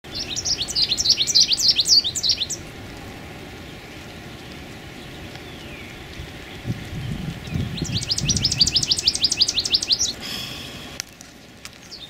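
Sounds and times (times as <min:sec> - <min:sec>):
bird twittering song: 0:00.1 - 0:02.7, 0:03.6 - 0:10.2, 0:11.3 - 0:12.0.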